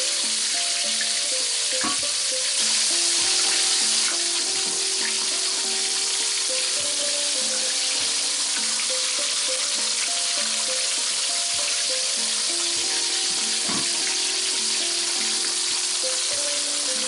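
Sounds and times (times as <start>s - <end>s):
background music: 0.0s - 17.0s
fish deep-frying in oil: 0.0s - 17.0s.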